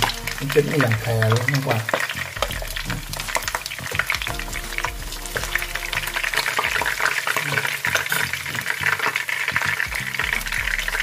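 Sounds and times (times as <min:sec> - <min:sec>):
chicken sizzling in hot oil: 0:00.0 - 0:11.0
metal tongs scraping a pan: 0:00.0 - 0:11.0.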